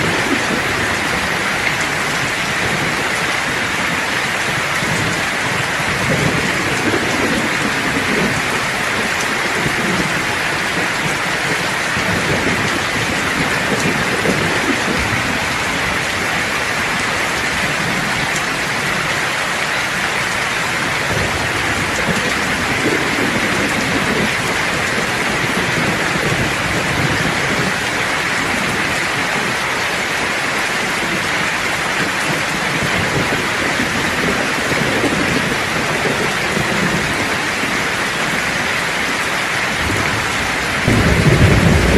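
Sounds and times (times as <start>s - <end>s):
low thunder rumbles: 0.0s - 19.1s, 20.3s - 29.6s, 31.0s - 41.9s
heavy rain hissing: 0.0s - 41.9s.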